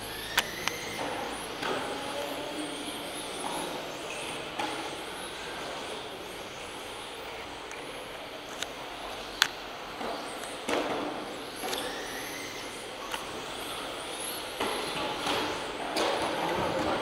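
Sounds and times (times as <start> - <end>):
electric model car motors whining: 0.0 - 9.5, 11.4 - 17.0.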